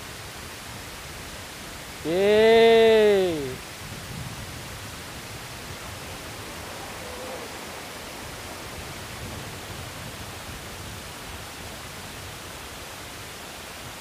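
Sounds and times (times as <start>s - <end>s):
wind: 0.0s - 14.0s
sea surf: 1.7s - 14.0s.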